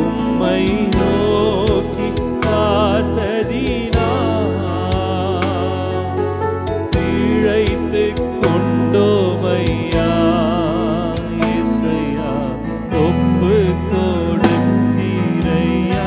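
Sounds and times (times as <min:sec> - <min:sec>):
instrumental backing with bass and beat: 0:00.0 - 0:16.0
person singing with vibrato: 0:00.0 - 0:16.0.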